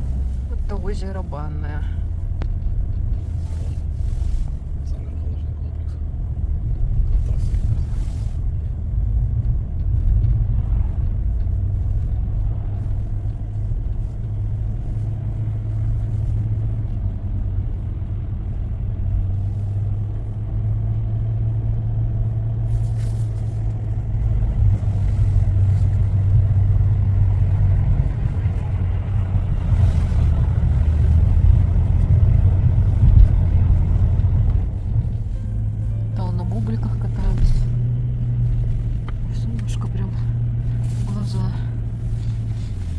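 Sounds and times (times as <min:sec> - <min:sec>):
car engine and tyres drone: 0:00.0 - 0:42.9.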